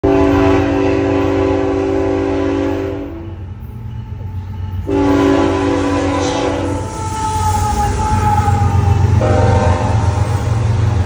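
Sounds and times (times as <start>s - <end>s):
locomotive air horn chord: 0.0s - 3.4s, 4.8s - 10.4s.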